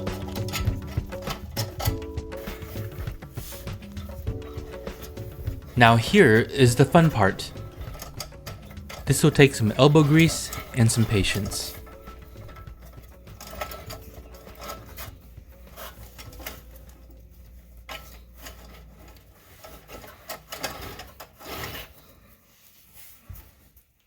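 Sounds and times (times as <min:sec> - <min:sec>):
metal hardware scraping and clicking: 0:00.0 - 0:22.3.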